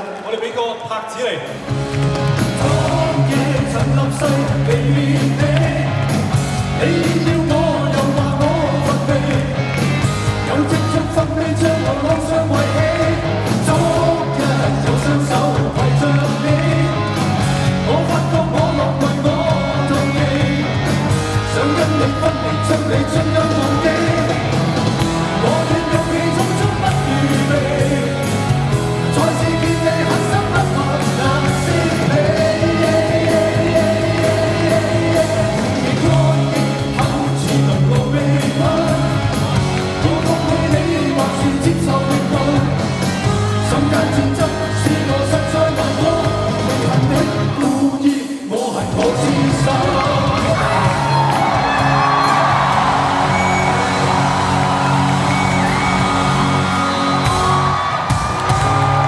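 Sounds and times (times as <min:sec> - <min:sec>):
band and orchestra dance beat: 0:00.0 - 0:59.0
men singing a pop duet: 0:02.4 - 0:59.0.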